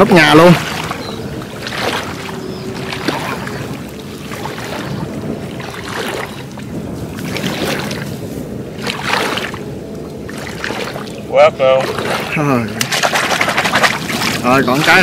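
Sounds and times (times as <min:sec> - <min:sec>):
floodwater sloshing and splashing: 0:00.0 - 0:15.0.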